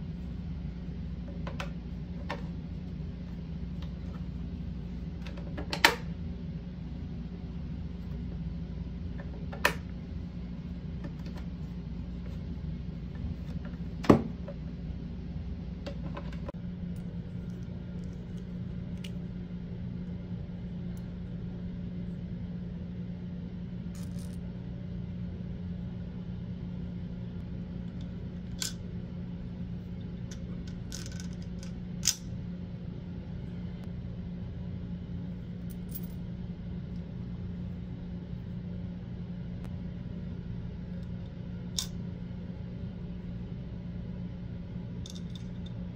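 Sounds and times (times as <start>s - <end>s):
low hum: 0.0s - 45.9s.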